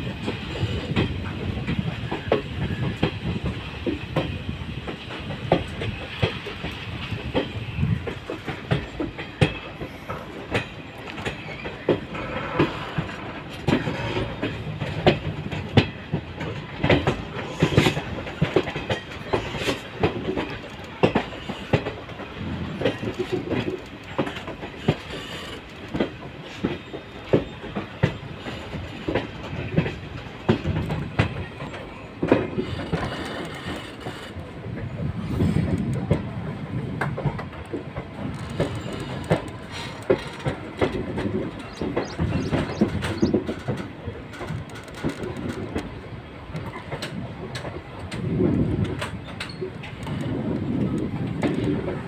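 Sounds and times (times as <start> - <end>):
train wheels rumbling: 0.0 - 52.0
wheels clacking over rail joints: 0.0 - 52.0.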